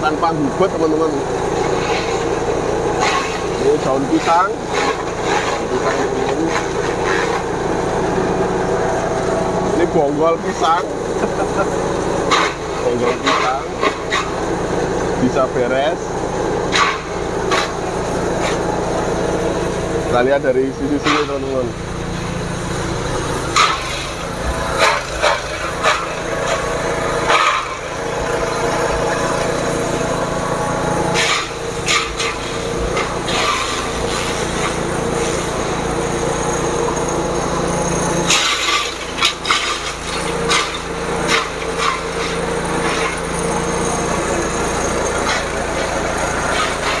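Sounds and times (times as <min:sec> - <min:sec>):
forage chopper engine running: 0:00.0 - 0:47.0.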